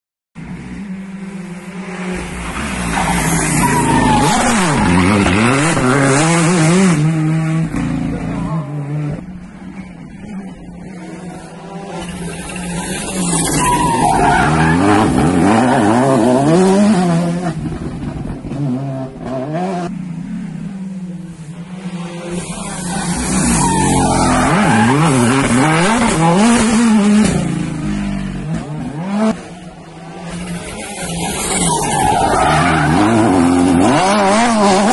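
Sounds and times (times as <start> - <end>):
rally car engines revving: 0.4 - 34.9.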